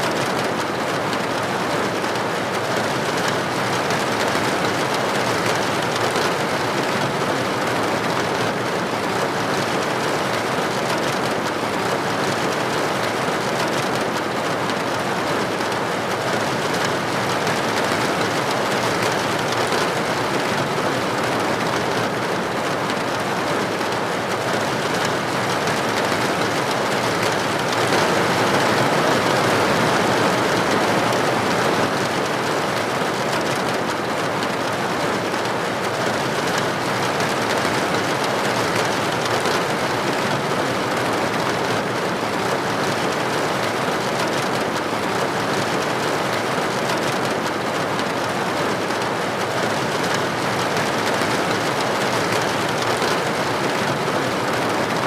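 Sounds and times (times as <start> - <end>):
rain on a window or roof: 0.0 - 55.0.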